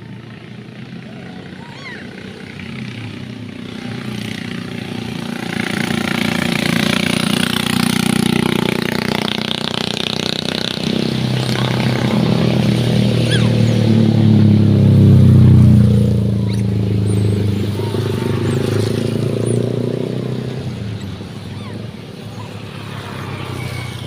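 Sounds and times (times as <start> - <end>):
vehicle engine approaching: 0.0 - 24.0.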